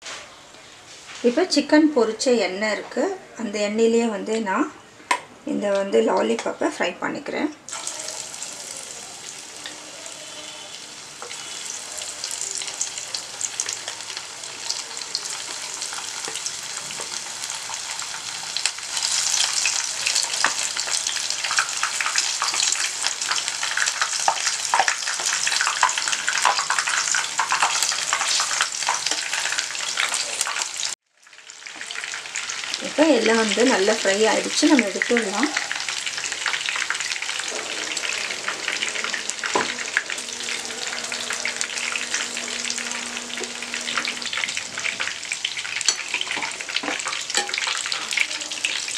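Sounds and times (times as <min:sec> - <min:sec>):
food sizzling in hot oil: 0:07.7 - 0:48.9.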